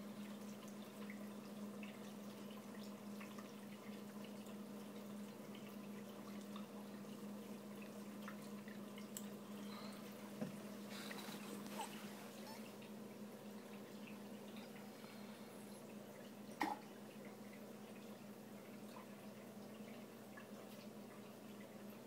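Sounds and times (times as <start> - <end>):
water trickling and dripping: 0.0 - 22.0.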